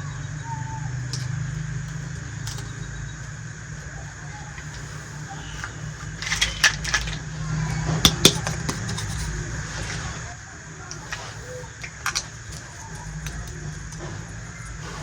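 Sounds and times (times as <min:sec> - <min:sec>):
plastic toy pieces clicking: 0:01.0 - 0:10.0, 0:10.8 - 0:15.0.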